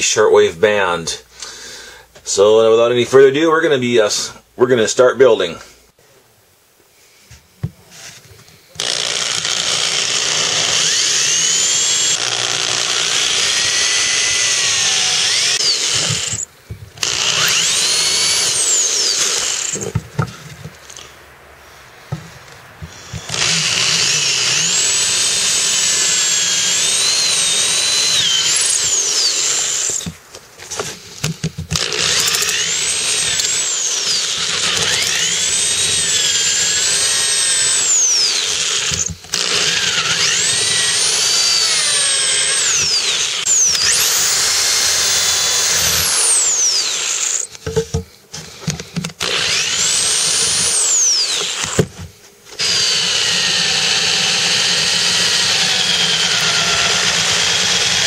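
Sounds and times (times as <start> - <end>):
electric drill whining: 8.7 - 21.2, 22.1 - 30.2, 31.1 - 58.0.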